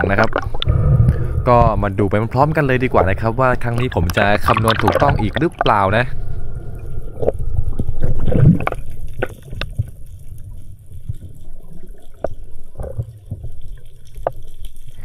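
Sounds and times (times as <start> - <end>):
muffled underwater rush: 0.0 - 15.0
underwater gurgles: 0.0 - 15.0.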